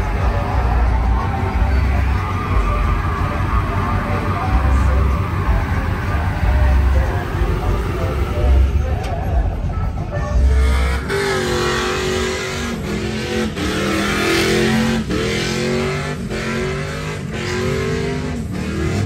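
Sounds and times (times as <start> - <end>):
pickup truck engine revving: 0.0 - 19.0.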